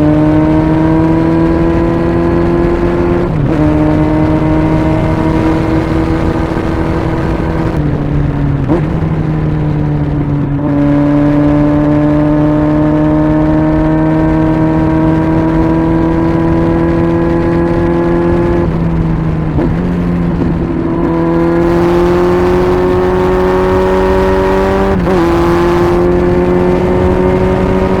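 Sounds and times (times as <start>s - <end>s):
motorcycle engine changing gears: 0.0s - 28.0s.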